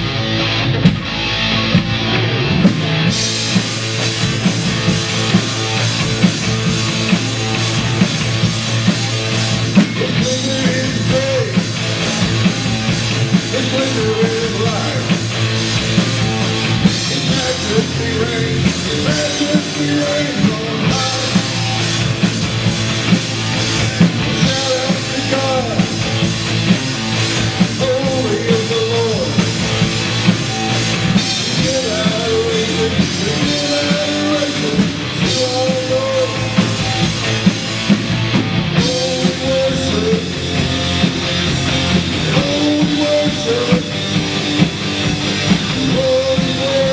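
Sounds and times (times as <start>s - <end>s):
drum kit beat: 0.0s - 46.9s
rock band music: 0.0s - 46.9s.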